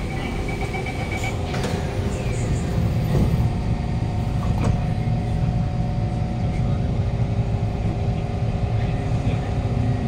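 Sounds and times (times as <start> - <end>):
train rumble and hum: 0.0 - 10.0.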